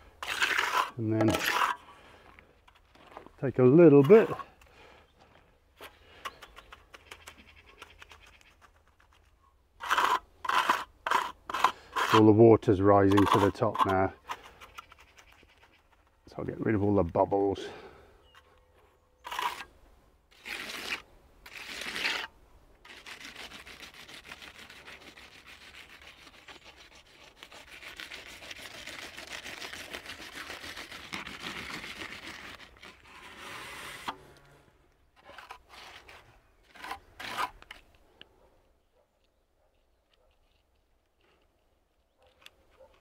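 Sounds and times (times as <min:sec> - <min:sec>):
trowel scraping wet concrete: 0:00.0 - 0:04.7, 0:05.8 - 0:17.9, 0:19.2 - 0:34.6, 0:35.2 - 0:38.0.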